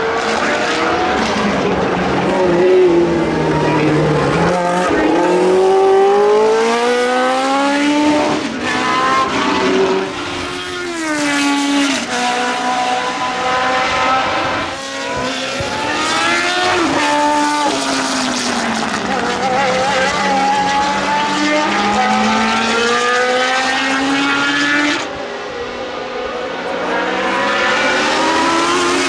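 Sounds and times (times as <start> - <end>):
racing engine accelerating: 0.0 - 29.0.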